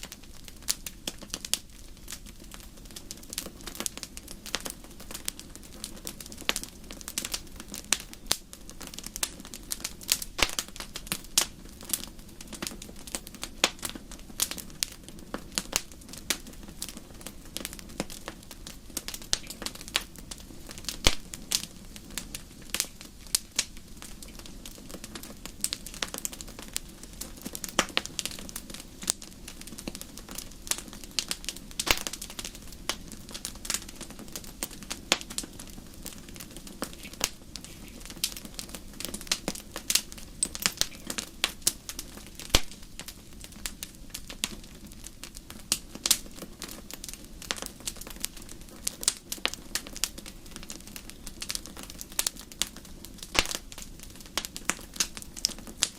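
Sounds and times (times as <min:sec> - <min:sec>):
low rumble of flames: 0:00.0 - 0:55.9
wood fire snaps and pops: 0:00.0 - 0:55.9.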